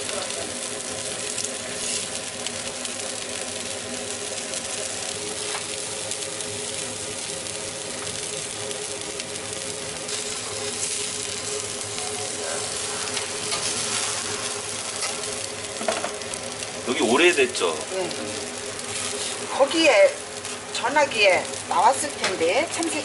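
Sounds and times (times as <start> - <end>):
birds sizzling on grill: 0.0 - 23.0
steady hum: 0.0 - 23.0.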